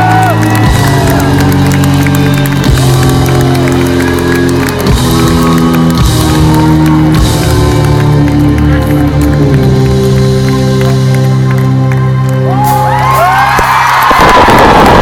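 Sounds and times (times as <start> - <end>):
crowd cheering and whooping: 0.0 - 9.0, 11.8 - 15.0
live pop-rock band: 0.0 - 14.4.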